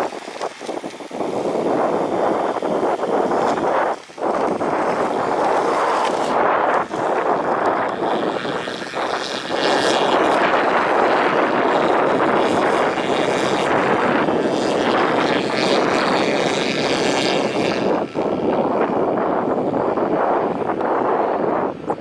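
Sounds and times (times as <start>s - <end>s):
jet engine noise: 0.0s - 22.0s
wind buffeting microphone: 0.0s - 22.0s.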